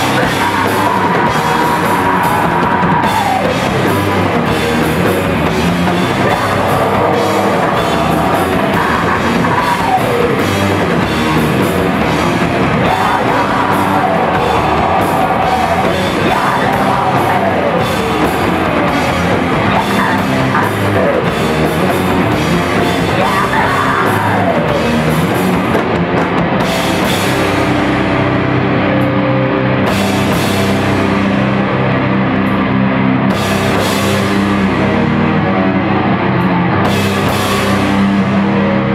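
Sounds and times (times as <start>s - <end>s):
punk band playing live: 0.0s - 38.9s.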